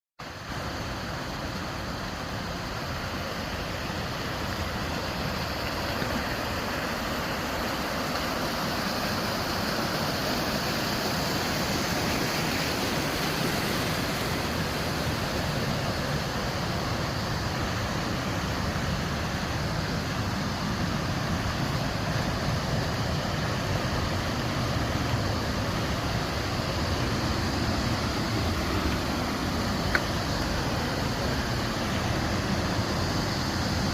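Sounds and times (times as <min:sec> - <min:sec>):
mountain stream rushing: 0:00.2 - 0:33.9.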